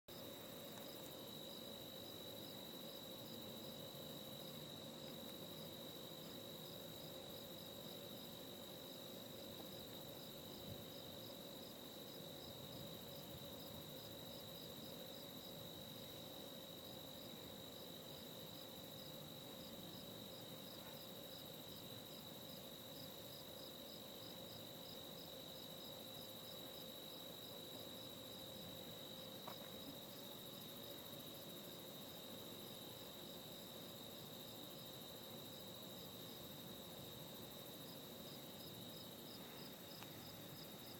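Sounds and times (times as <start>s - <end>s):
cricket steady trill: 0.0s - 40.9s
cricket chirping: 0.1s - 40.9s.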